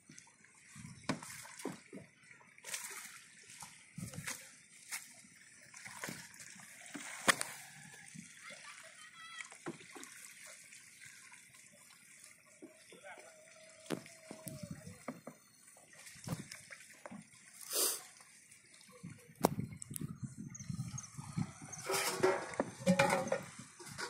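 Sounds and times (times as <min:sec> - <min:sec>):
water splashing and dripping: 0:00.0 - 0:24.0.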